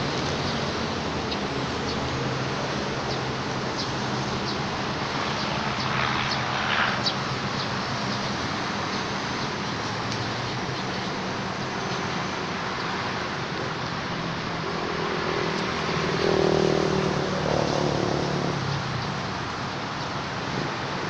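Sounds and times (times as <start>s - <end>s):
outdoor background noise: 0.0s - 21.0s
vehicle engine humming: 0.0s - 21.0s.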